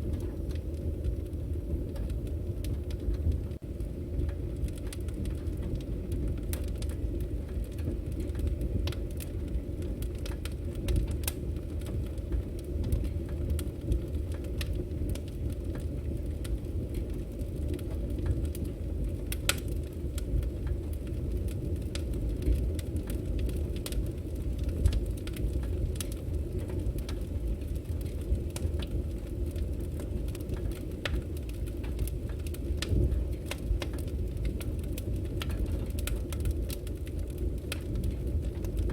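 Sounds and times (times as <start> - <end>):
burning wood crackling and popping: 0.0 - 38.9
rumble of flames: 0.0 - 38.9.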